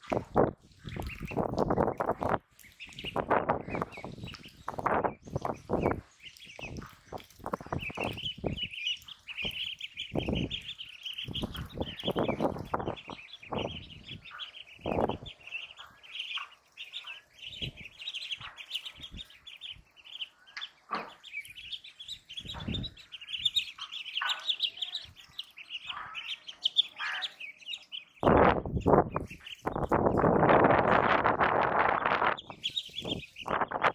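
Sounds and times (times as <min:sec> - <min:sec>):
ducklings peeping: 0:00.0 - 0:33.9.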